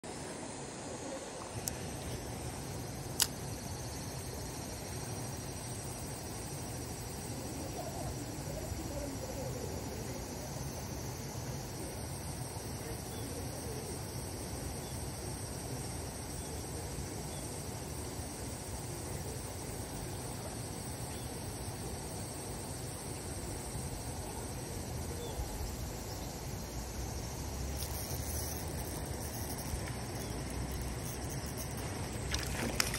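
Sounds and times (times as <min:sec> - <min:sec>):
insects chirring: 0:00.0 - 0:32.9.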